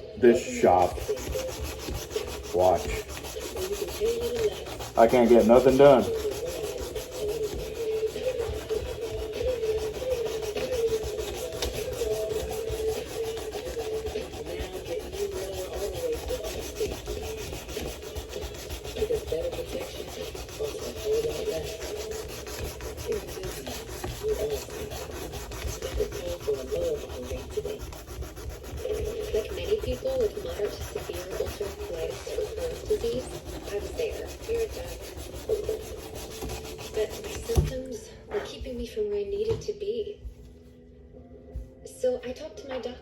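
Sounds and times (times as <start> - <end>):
knife blade being sanded: 0.3 - 37.8.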